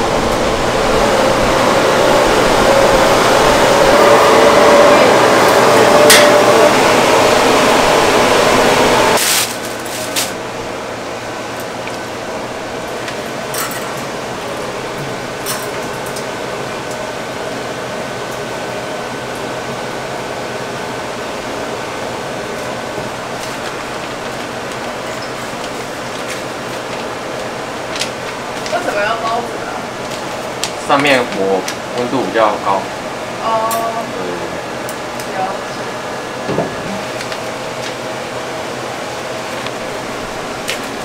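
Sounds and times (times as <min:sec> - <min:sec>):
gas burner flame rushing: 0:00.0 - 0:33.5
steady low hum: 0:00.0 - 0:41.0.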